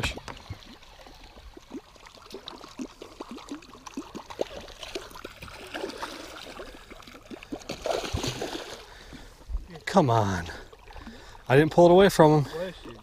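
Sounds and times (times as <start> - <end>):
water gurgling and splashing: 0.0 - 13.0.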